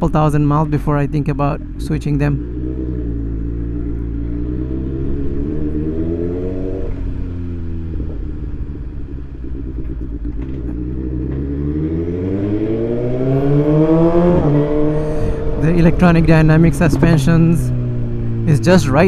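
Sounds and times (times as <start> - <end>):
motorbike engine accelerating: 0.0 - 19.0.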